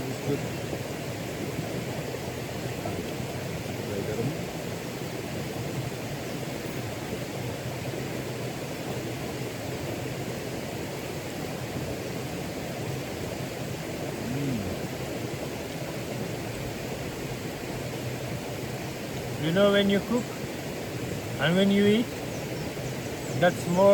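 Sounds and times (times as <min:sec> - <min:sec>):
river water rushing: 0:00.0 - 0:23.9.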